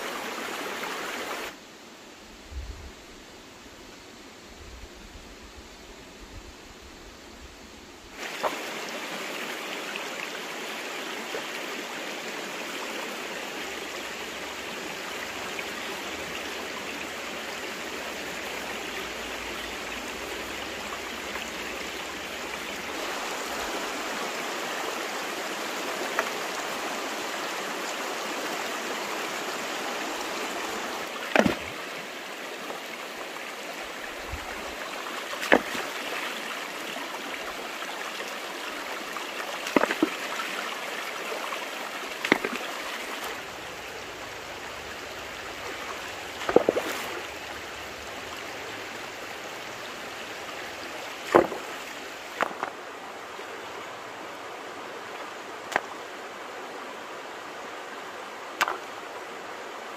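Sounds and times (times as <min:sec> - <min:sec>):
stream water running: 0:00.0 - 0:02.3, 0:03.0 - 0:59.9.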